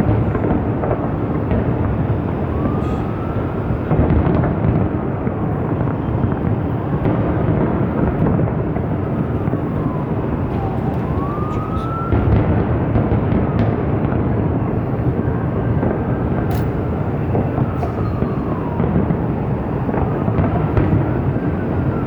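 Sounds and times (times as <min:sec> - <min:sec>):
fireworks booming: 0:00.0 - 0:21.9
faint siren wailing: 0:00.0 - 0:22.0.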